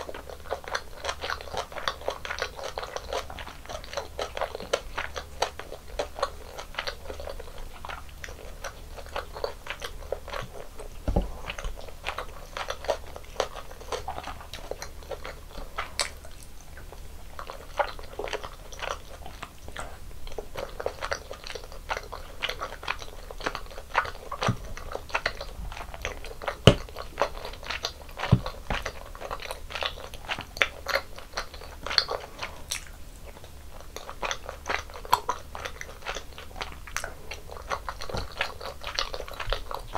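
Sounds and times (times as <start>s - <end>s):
chewing and crunching snack: 0.0s - 39.9s.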